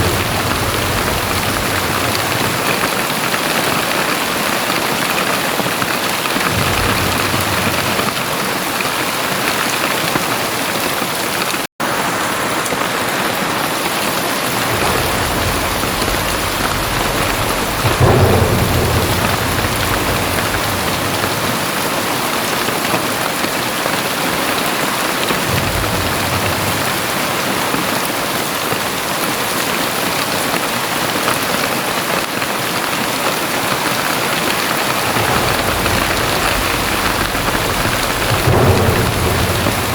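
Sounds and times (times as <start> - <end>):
thunder rumbling: 0.0 - 11.5, 14.4 - 31.9, 32.8 - 39.9
very heavy rain: 0.0 - 39.9.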